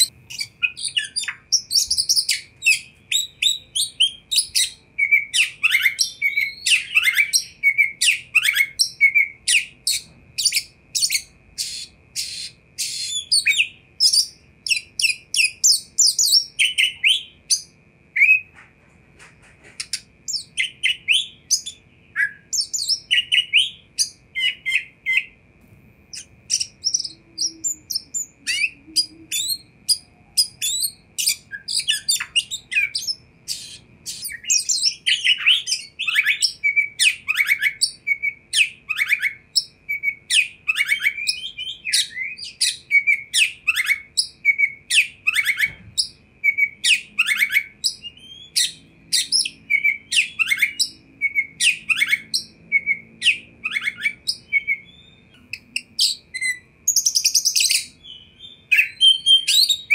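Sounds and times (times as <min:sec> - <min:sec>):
bird singing fast varied song: 0:00.0 - 0:18.5, 0:19.8 - 0:25.4, 0:26.1 - 0:59.9.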